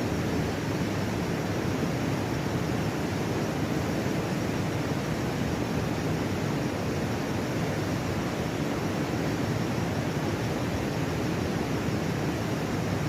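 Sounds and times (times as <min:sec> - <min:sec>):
river water rushing over rapids: 0:00.0 - 0:13.0.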